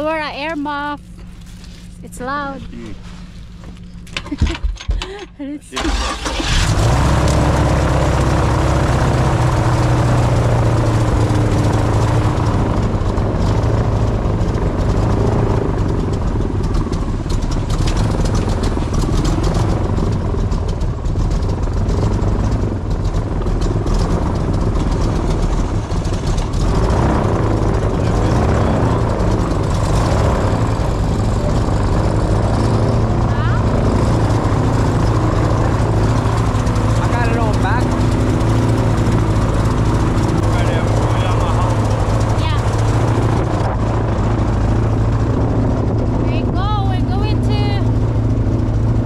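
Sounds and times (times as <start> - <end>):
airboat engine and propeller droning: 0.0 - 4.9, 5.7 - 49.0.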